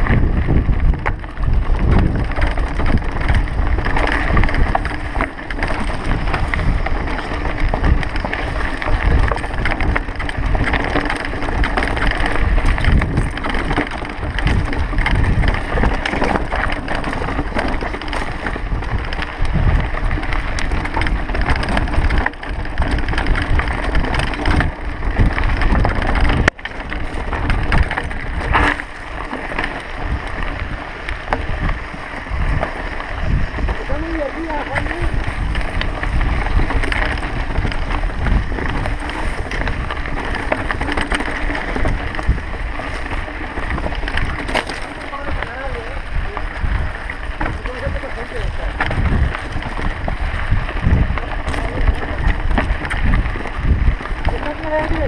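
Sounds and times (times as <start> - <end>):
bike rattling over bumps: 0.0 - 55.0
wind buffeting microphone: 0.0 - 55.0.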